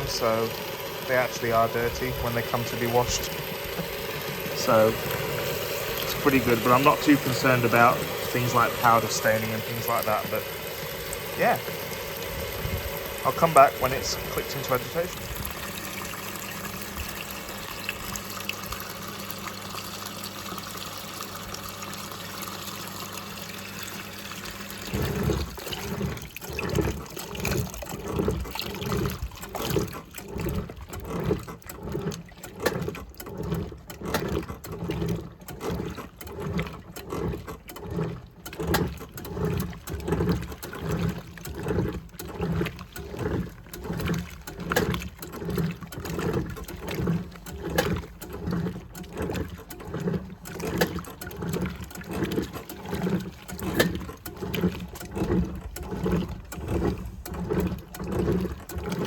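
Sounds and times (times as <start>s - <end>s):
washing machine agitator swishing: 0.0s - 59.0s
washing machine filling with water: 0.0s - 59.0s.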